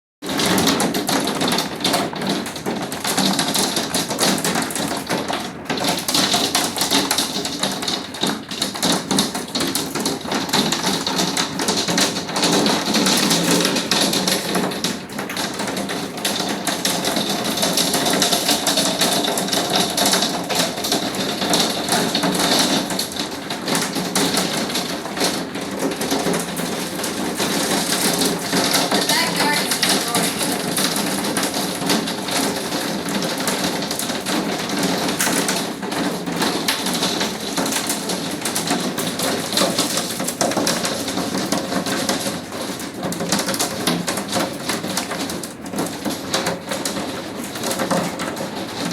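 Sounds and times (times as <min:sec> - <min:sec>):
hailstones clattering: 0:00.2 - 0:48.9.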